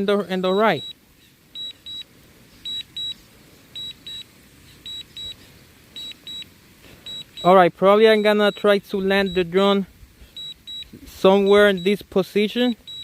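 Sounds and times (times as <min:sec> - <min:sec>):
short high warning beeps: 0:00.4 - 0:01.0, 0:01.6 - 0:13.0.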